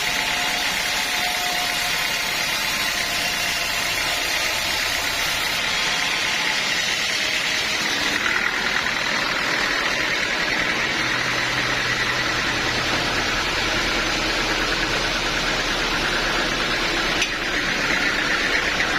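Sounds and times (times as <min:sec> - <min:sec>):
sawmill machinery running: 0:00.0 - 0:18.9.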